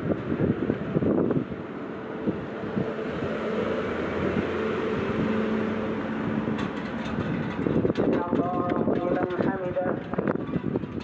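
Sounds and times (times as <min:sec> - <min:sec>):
rushing wind: 0:00.0 - 0:11.0
street traffic: 0:00.0 - 0:11.0.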